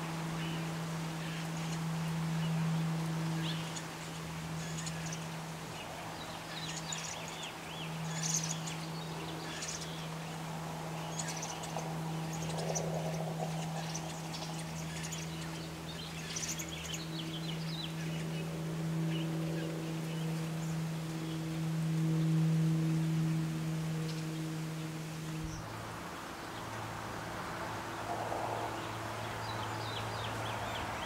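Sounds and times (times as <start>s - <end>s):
birds chirping and twittering: 0.0s - 31.0s
constant low hum: 0.0s - 31.0s.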